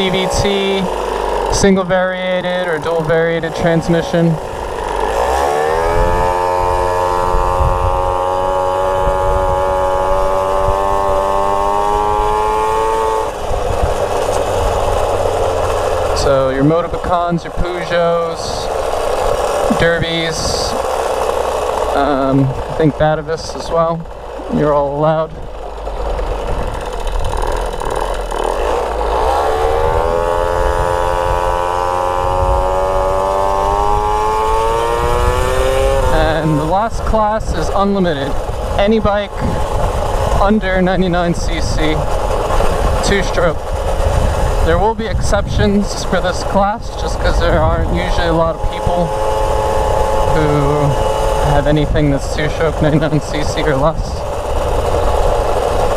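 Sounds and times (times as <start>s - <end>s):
moped engine revving: 0.0s - 55.9s
wind noise: 2.8s - 21.0s, 21.9s - 55.9s.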